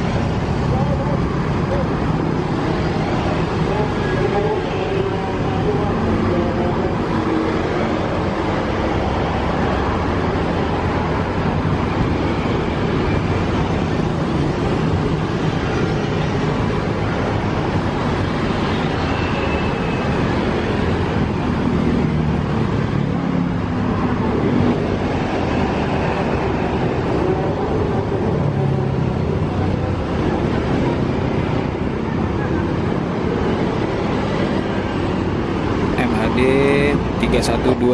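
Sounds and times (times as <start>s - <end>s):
road traffic passing: 0.0s - 37.9s.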